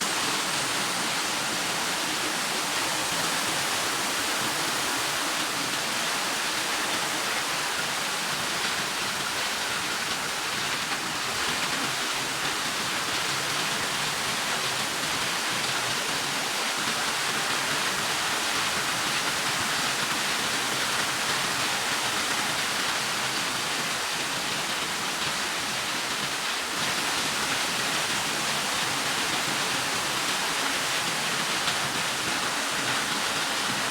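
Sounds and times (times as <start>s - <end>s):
water rushing and splashing: 0.0s - 33.9s.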